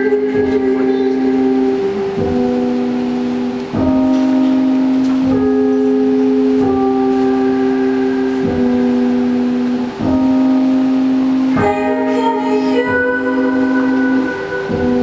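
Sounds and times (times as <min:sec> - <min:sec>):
slow ambient music: 0:00.0 - 0:15.0.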